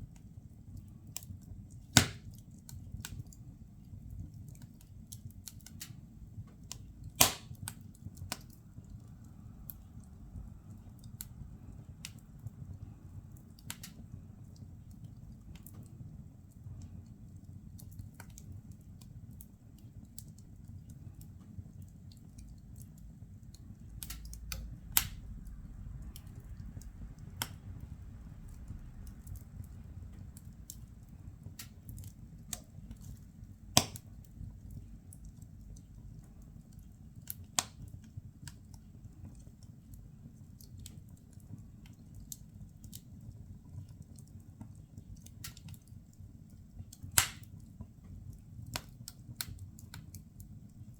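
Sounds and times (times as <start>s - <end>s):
firewood crackling and popping: 0.0s - 50.9s
low rumble of fire: 0.0s - 50.9s.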